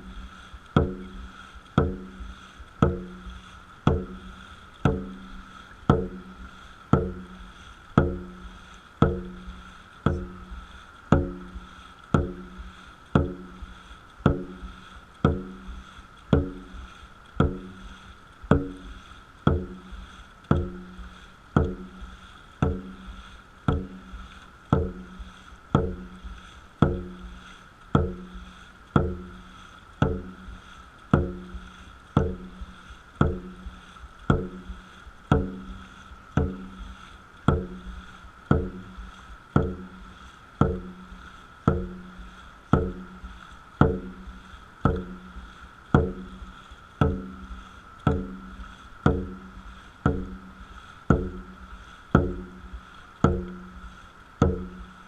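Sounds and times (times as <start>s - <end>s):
drum beaten at an even pace: 0.0s - 28.4s, 29.0s - 51.6s, 52.2s - 53.8s, 54.4s - 54.9s.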